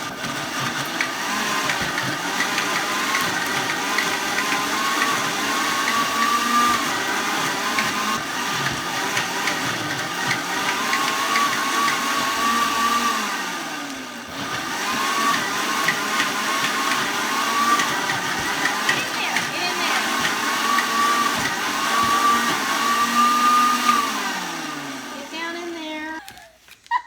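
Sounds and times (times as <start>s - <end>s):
electric blender motor running: 0.0s - 26.5s.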